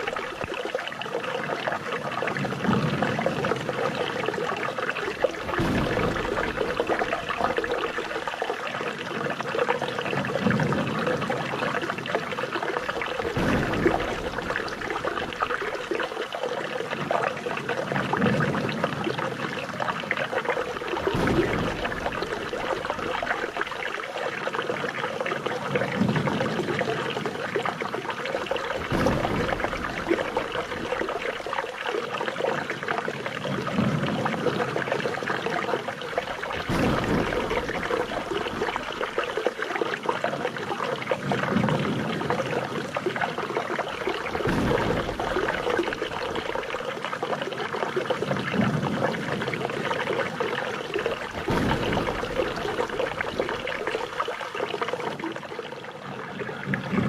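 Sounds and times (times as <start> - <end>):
low water surge: 0.0 - 57.0
water babbling and splashing: 0.0 - 57.0.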